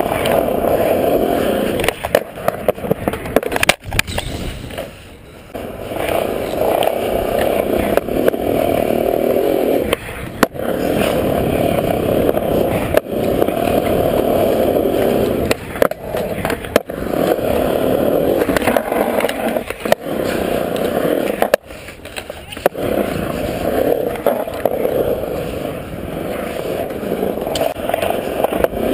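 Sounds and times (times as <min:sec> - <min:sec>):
skateboard clacks: 0:00.0 - 0:28.9
skateboard wheels rolling on concrete: 0:00.0 - 0:28.9.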